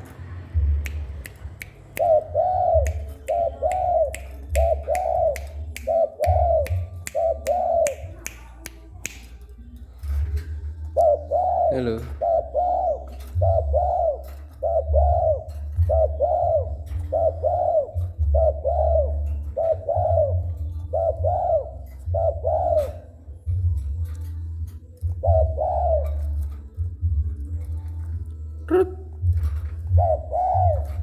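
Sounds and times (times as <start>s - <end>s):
dove cooing: 1.8s - 8.2s, 10.0s - 31.0s.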